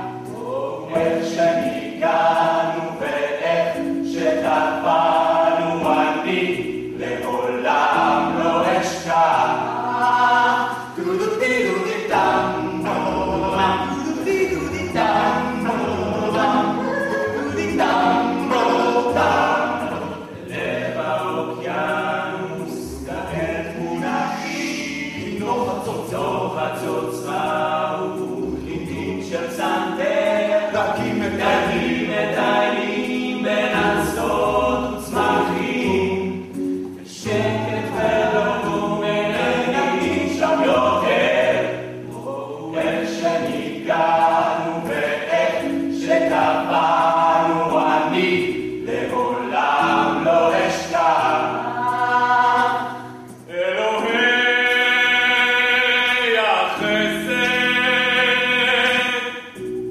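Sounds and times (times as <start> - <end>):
male vocal group singing a cappella: 0.0 - 59.7.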